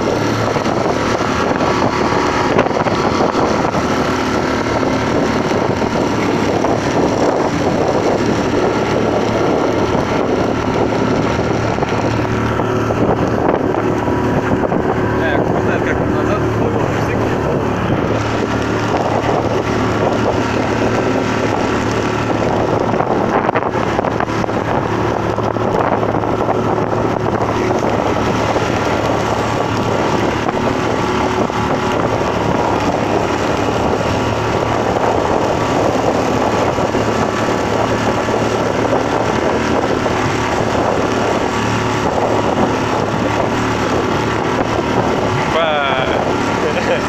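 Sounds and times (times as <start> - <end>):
outboard motor running: 0.0 - 47.0
water rushing along hull: 0.0 - 47.0
wind buffeting microphone: 0.0 - 47.0.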